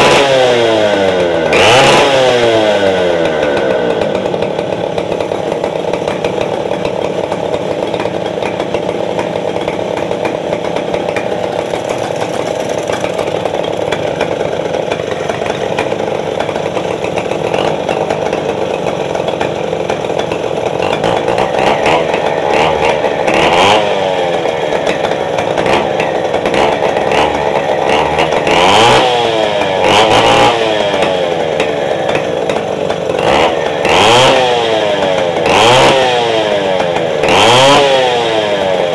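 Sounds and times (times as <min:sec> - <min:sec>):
chainsaw running and revving: 0:00.0 - 0:38.9.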